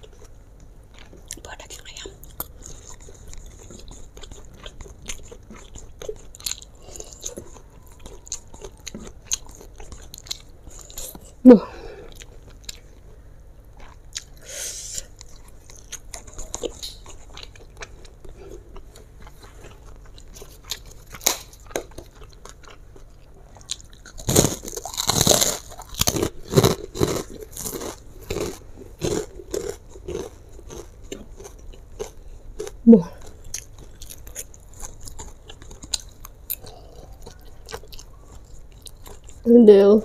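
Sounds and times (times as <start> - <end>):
chewing noodles: 0.0 - 11.4, 13.7 - 39.5.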